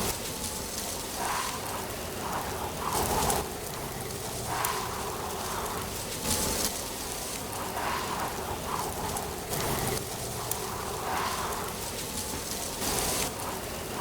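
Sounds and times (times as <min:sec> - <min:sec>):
wind rustling dry leaves: 0:00.0 - 0:14.0.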